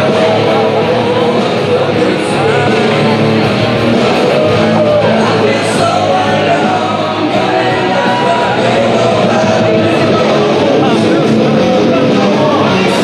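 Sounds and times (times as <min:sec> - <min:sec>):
rock music with guitar and singing: 0:00.0 - 0:13.0.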